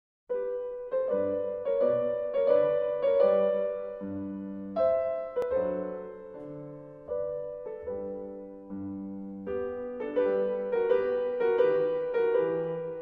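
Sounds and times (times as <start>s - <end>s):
slow gentle piano music: 0.3s - 13.0s.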